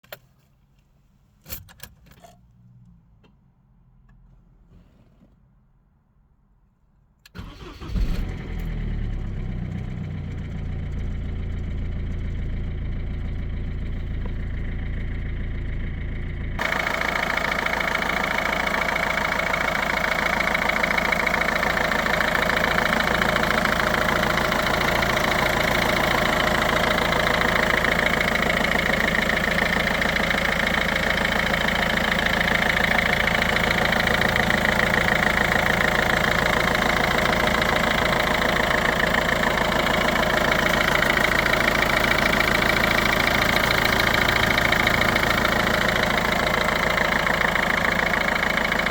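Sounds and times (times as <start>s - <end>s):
diesel engine cranking and idling: 7.3s - 48.9s.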